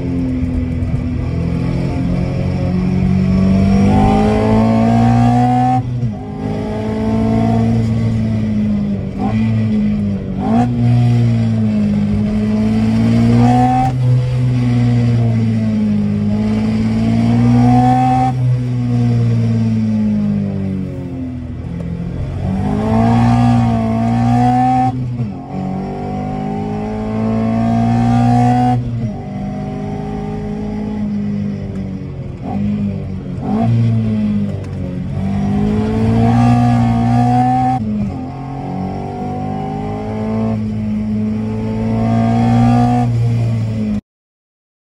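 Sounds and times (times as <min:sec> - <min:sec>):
car engine accelerating hard: 0:00.0 - 0:20.9, 0:21.5 - 0:44.0.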